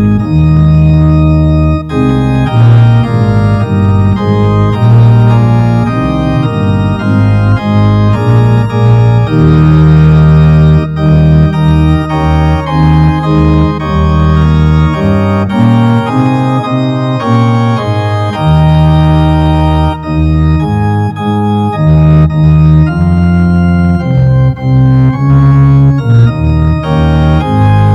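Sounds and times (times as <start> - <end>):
organ chords over bass line: 0.0 - 27.9.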